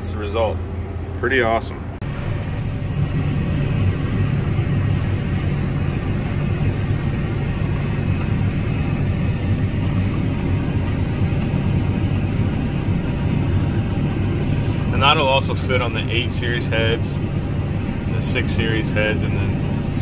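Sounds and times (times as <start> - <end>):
combine harvester engine humming: 0.0 - 20.0.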